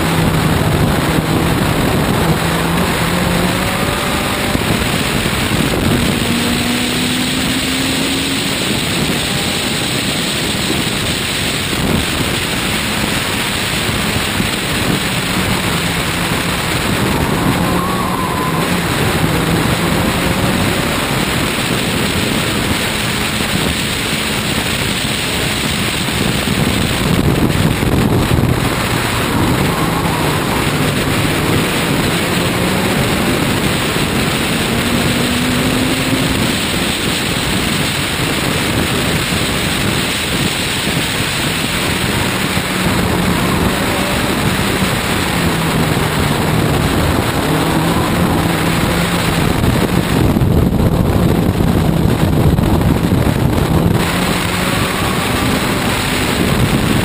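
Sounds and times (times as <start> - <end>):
race car engine at speed: 0.0 - 57.0
wind rush on microphone: 0.0 - 57.0.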